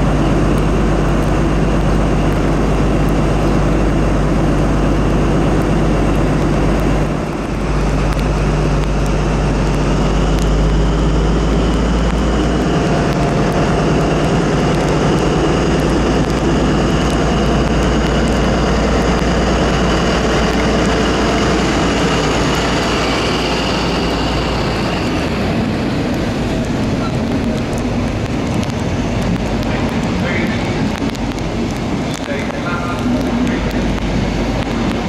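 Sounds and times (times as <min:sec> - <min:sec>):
diesel train engine with whine: 0:00.0 - 0:35.0
train coaches rolling by: 0:00.0 - 0:35.0.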